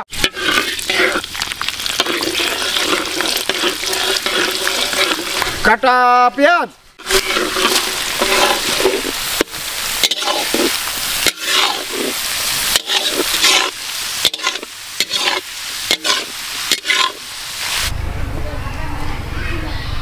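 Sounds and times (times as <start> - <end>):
onions sizzling in oil: 0.0 - 6.0, 6.9 - 17.9.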